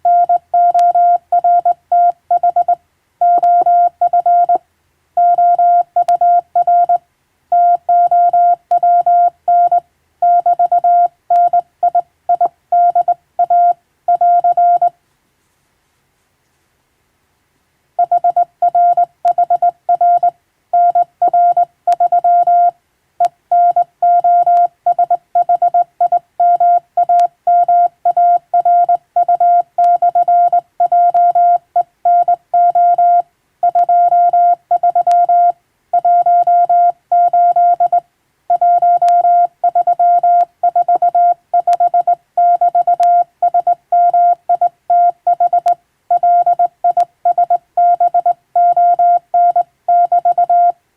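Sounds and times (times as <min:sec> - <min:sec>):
morse code beeps: 0:00.0 - 0:04.6, 0:05.2 - 0:14.9, 0:18.0 - 0:22.7, 0:23.5 - 0:50.8.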